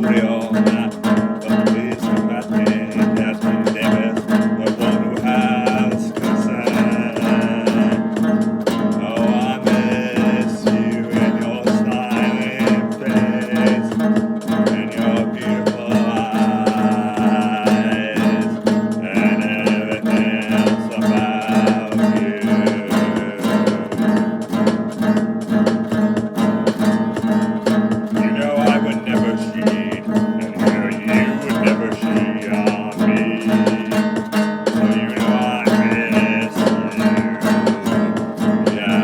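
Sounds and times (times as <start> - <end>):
strummed acoustic guitar music: 0.0 - 39.0.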